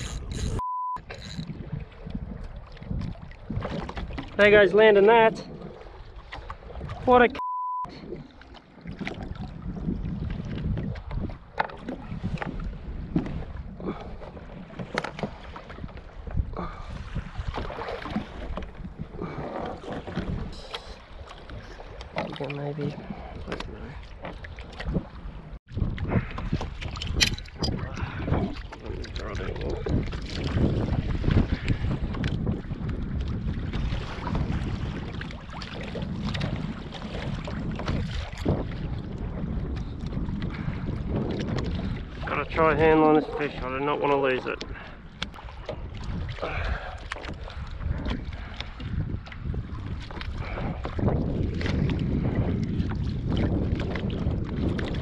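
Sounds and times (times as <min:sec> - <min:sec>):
splashy water wash: 0:00.0 - 0:55.0
water sloshing against hull: 0:00.0 - 0:55.0
wind buffeting microphone: 0:00.0 - 0:55.0.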